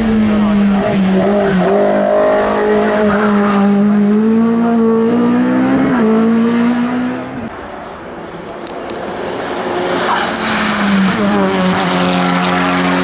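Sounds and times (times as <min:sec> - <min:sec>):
race car engine running hard: 0:00.0 - 0:13.0.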